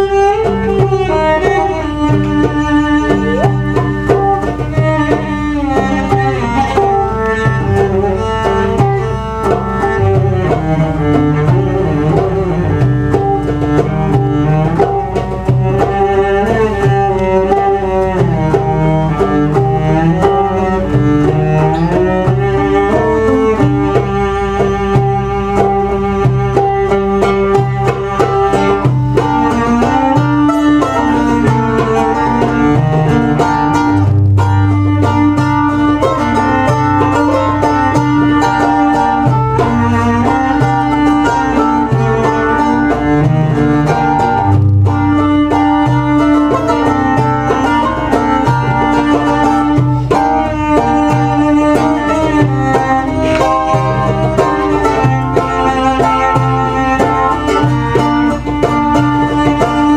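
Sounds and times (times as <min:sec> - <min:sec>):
low bass notes: 0:00.0 - 0:59.9
plucked mandolin melody: 0:00.0 - 0:59.9.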